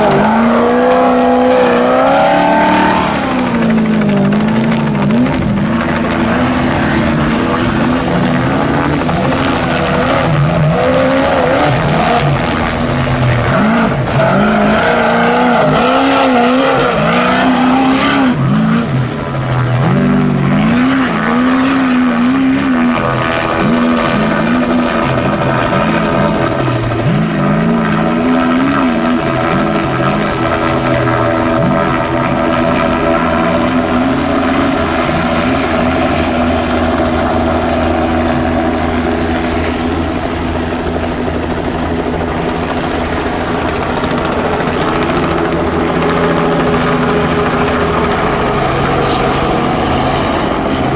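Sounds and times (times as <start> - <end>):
race truck engine revving: 0.0 - 50.9.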